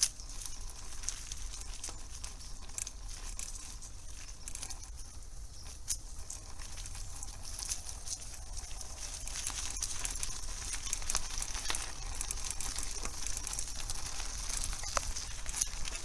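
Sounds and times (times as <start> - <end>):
bicycle tyres crunching leaves: 0.0 - 16.0.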